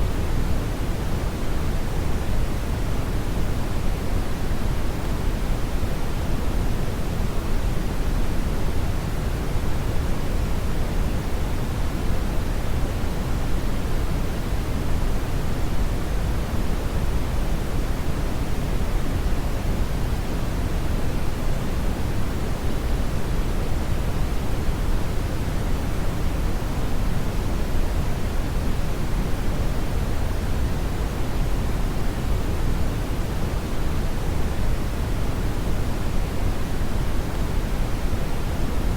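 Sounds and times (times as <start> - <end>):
loud brown noise hiss: 0.0 - 38.9.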